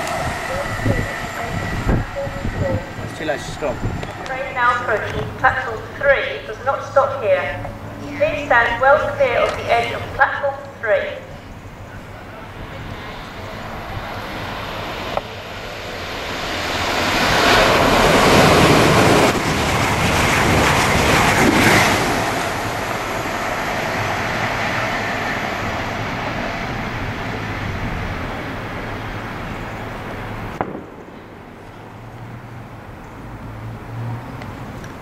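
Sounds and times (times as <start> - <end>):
diesel train passing at speed: 0.0 - 35.0.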